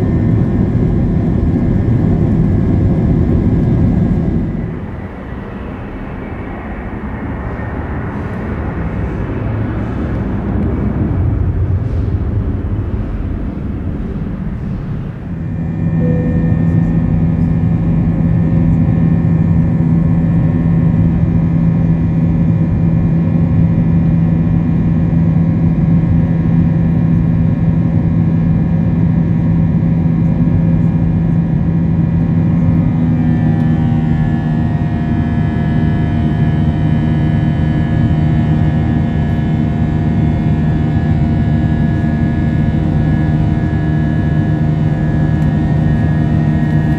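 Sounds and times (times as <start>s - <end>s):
jet engine drone in cabin: 0.0s - 46.9s
jet engine takeoff roar: 0.0s - 46.9s.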